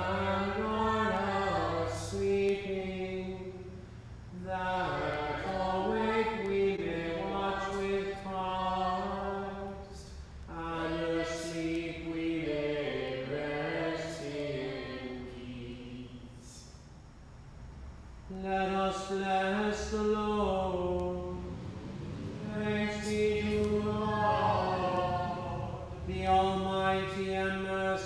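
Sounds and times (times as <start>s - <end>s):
unaccompanied plainsong chant: 0.0s - 16.8s, 18.3s - 28.0s.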